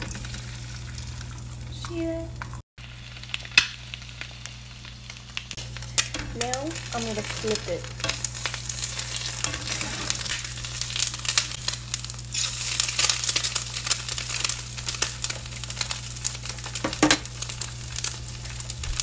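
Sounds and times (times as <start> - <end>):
egg sizzling in frying pan: 0.0 - 19.0.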